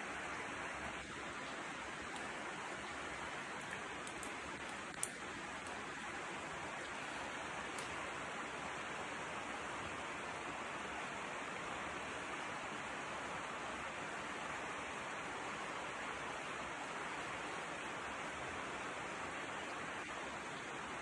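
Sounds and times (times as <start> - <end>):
rushing hiss of background noise: 0.0 - 21.0.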